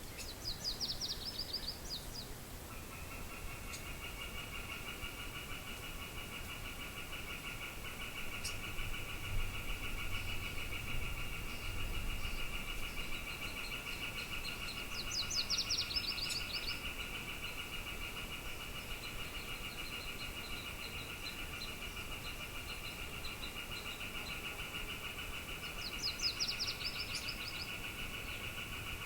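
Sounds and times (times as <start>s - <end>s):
low wind rumble: 0.0s - 23.7s.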